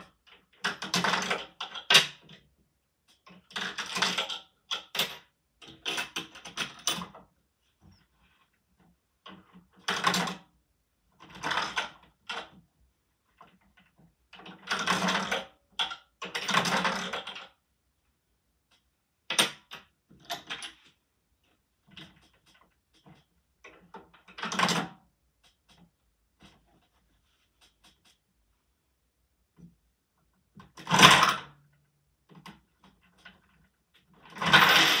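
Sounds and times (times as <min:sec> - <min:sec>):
plastic mechanism rattling and clacking: 0:00.0 - 0:17.6, 0:18.7 - 0:21.0, 0:21.8 - 0:28.2, 0:30.5 - 0:35.0.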